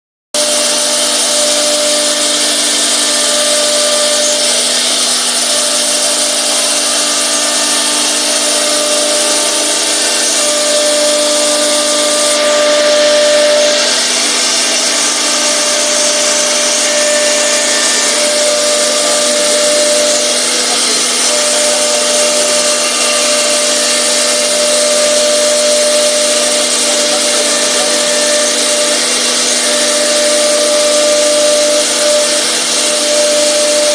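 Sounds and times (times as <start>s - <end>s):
router whirring with whine: 0.4s - 33.9s.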